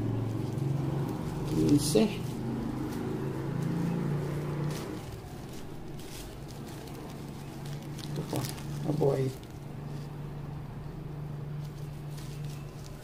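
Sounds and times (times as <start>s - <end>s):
plastic bags crinkling: 0.0s - 10.2s, 11.4s - 13.0s.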